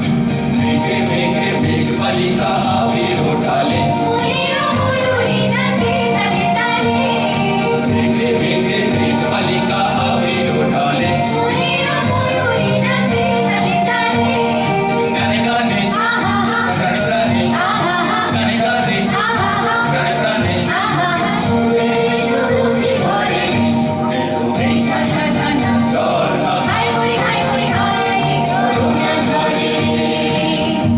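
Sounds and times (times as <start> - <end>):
instrumental accompaniment: 0.0 - 30.9
steady percussive beat: 0.0 - 30.9.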